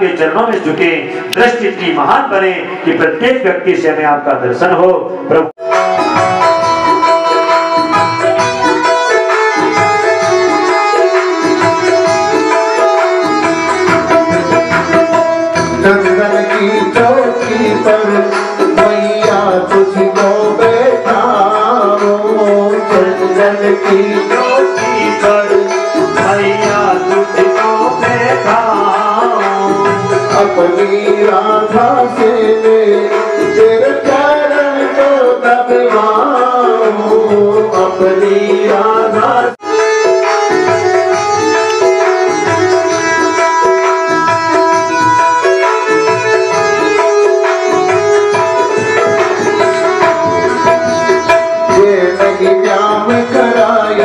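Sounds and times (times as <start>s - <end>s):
tabla playing a rhythm: 0.0s - 54.0s.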